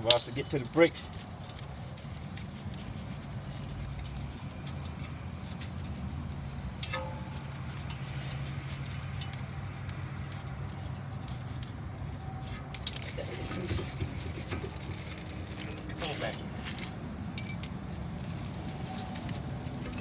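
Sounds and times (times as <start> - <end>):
metal tools clinking: 0.0 - 5.8, 6.7 - 11.4, 12.3 - 17.9.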